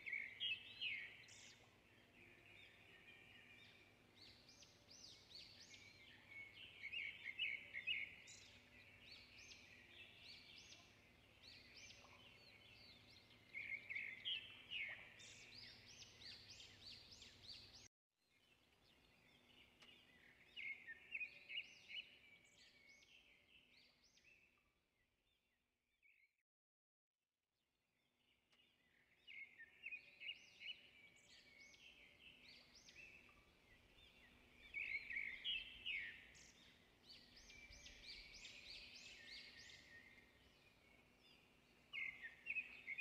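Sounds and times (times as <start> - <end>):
birds chirping: 0.0 - 17.9, 18.9 - 24.5, 28.6 - 43.0.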